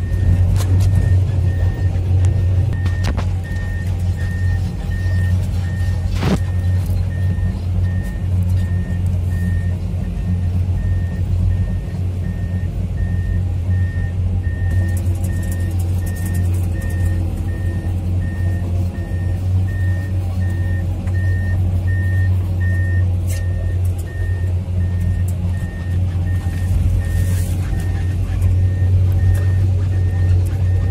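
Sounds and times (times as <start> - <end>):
excavator diesel engine running: 0.0 - 30.9
travel alarm beeping: 0.0 - 30.9.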